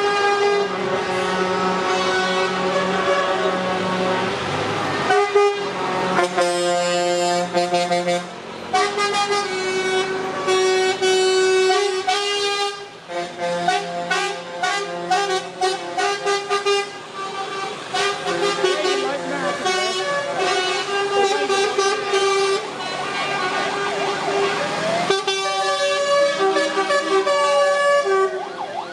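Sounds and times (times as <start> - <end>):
truck air horns: 0.0 - 28.9.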